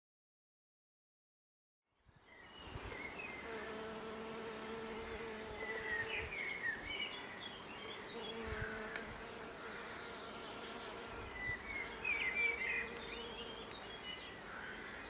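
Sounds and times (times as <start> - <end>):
birds chirping: 2.3 - 15.0
insect buzzing: 2.6 - 15.0.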